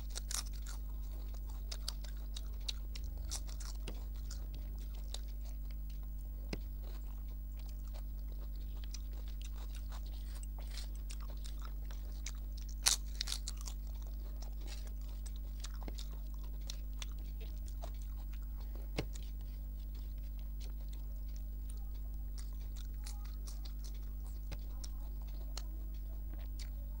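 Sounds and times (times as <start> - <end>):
steady low hum: 0.0 - 27.0
wet mouth clicks from chewing: 0.0 - 27.0.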